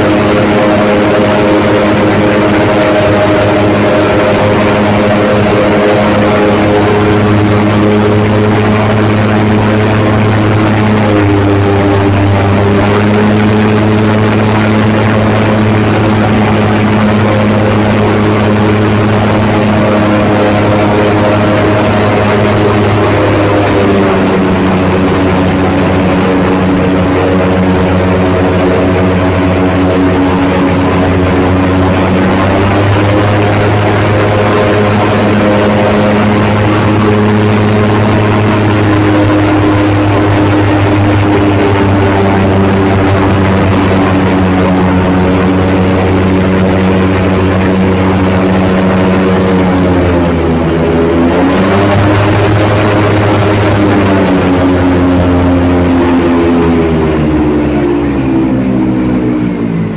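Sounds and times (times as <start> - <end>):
airboat engine and propeller drone: 0.0 - 59.9.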